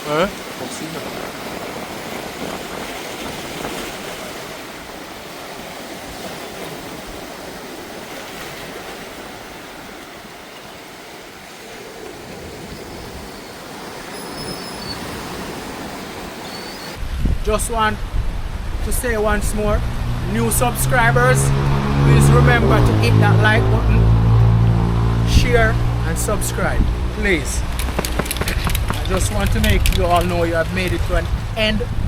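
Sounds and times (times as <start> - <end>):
rushing sea noise: 0.0 - 32.0.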